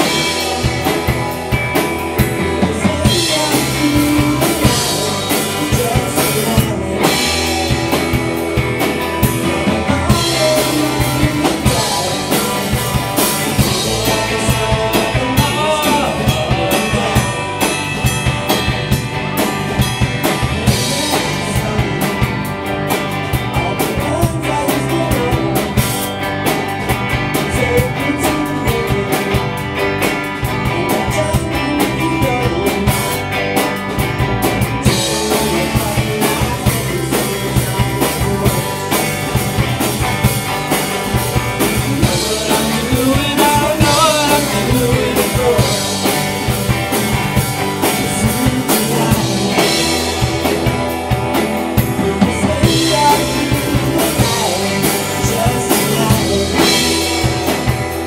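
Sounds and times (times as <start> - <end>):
person singing: 0.0 - 8.5, 9.4 - 18.1, 20.2 - 26.2, 27.3 - 29.6, 30.4 - 33.4, 34.6 - 39.8, 41.6 - 58.0
drum kit: 0.0 - 58.0
electric guitar: 0.0 - 58.0.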